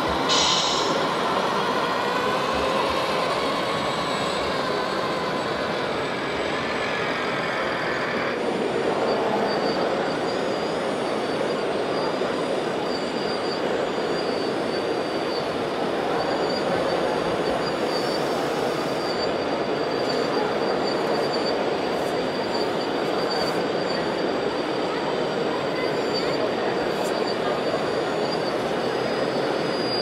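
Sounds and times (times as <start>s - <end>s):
exhibition hall noise: 0.0s - 30.0s
wavering high hydraulic pump whine: 0.0s - 30.0s.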